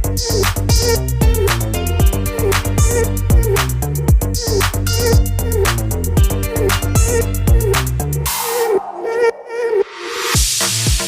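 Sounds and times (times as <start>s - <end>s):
electronic hip-hop beat: 0.0s - 11.0s.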